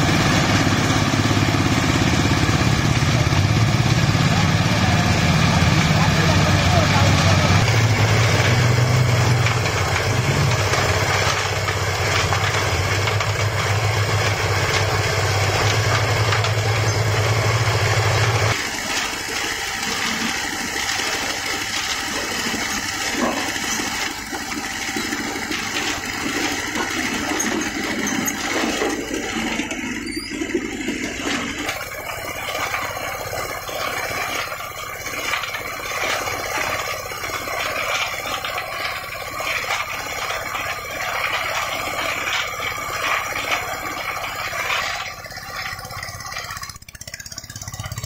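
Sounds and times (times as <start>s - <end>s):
clattering machine noise: 0.0s - 48.0s
concrete mixer engine hum: 0.0s - 48.0s.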